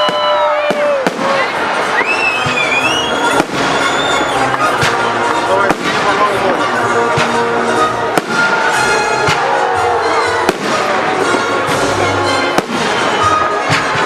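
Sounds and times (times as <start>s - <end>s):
fireworks bangs: 0.0s - 14.0s
music playing: 0.0s - 14.0s.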